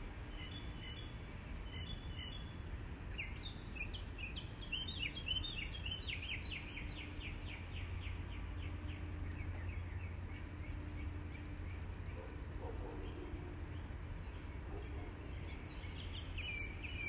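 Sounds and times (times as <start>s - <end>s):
low outdoor rumble: 0.0s - 17.0s
bird chirping: 0.3s - 17.0s.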